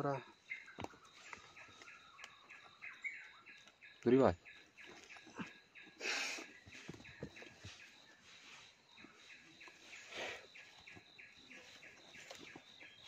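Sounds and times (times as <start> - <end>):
soil and dry leaves rustling: 0.0 - 13.0.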